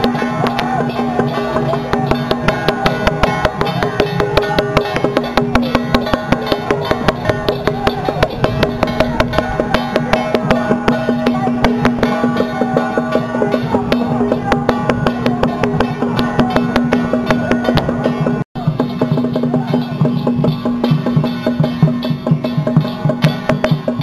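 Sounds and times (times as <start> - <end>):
fast percussion beat: 0.0 - 24.0
wavering melody: 0.0 - 24.0.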